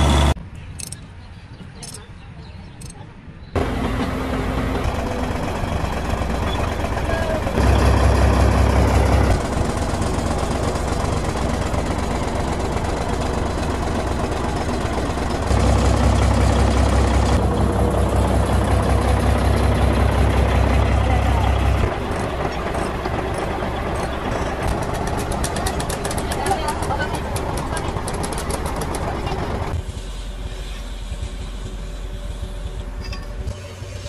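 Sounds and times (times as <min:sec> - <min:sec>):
heavy machine engine rumbling: 0:00.0 - 0:01.0, 0:03.6 - 0:34.0.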